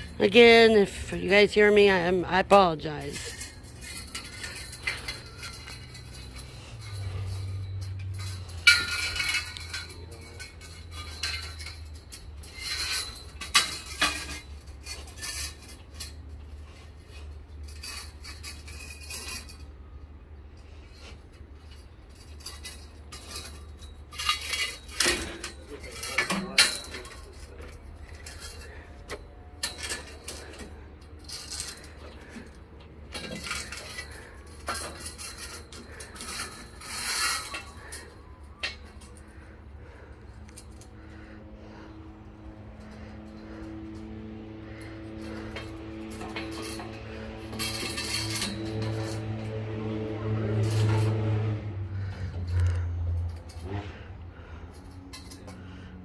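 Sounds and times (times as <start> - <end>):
metal parts clinking and rattling: 0.0 - 56.0.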